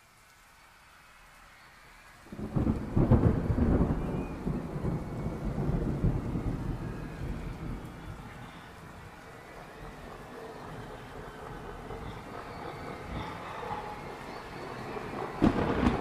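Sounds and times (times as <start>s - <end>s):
rain hiss: 0.0s - 16.0s
thunder rumble: 2.3s - 16.0s.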